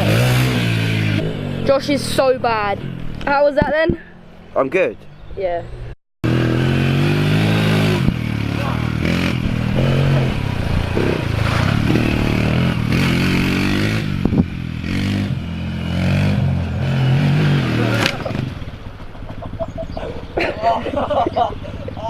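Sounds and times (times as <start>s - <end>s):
quad engine revving: 0.0s - 3.4s, 6.2s - 22.0s.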